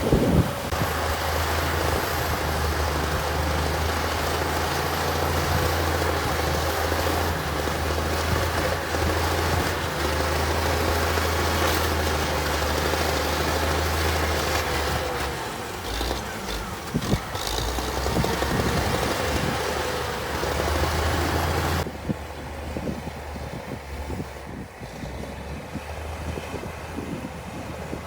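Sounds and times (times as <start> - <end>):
diesel engine drone: 0.0 - 28.0.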